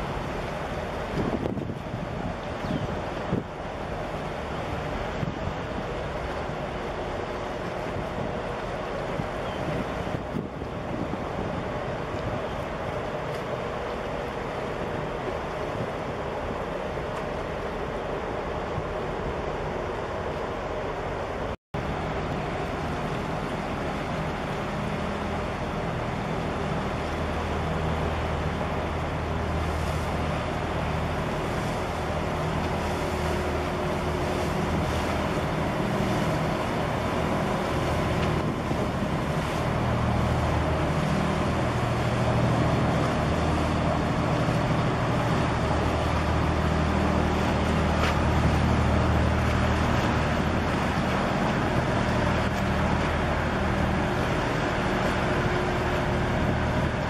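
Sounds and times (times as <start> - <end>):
rushing water and wind: 0.0 - 57.0
ship engine droning low: 0.0 - 57.0.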